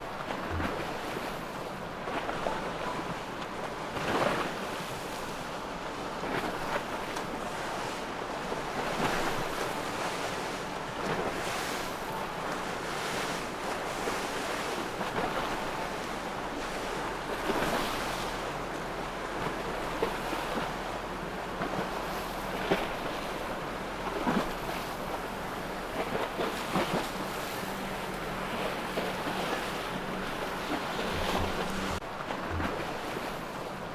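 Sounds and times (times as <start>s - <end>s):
choppy water and breaking waves: 0.0s - 33.9s
boat motor humming: 4.6s - 33.9s.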